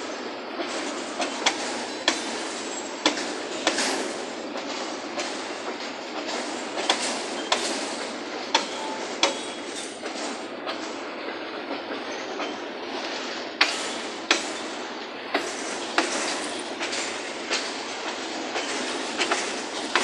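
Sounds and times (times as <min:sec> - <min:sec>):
train wheels on rail: 0:00.0 - 0:20.0
wheels clicking over rail joints: 0:00.5 - 0:20.0.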